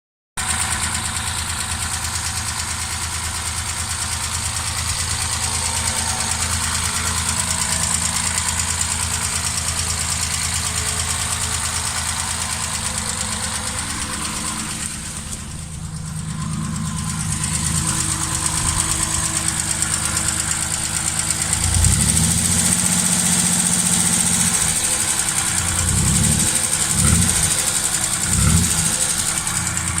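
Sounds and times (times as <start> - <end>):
engine revving: 0.4 - 30.0.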